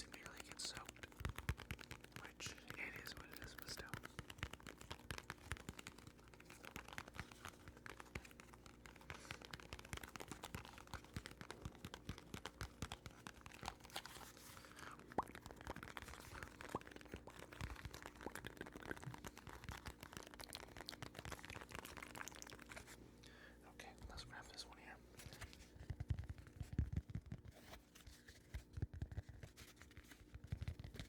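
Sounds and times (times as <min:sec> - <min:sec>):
soft clicks and crackles: 0:00.0 - 0:31.0.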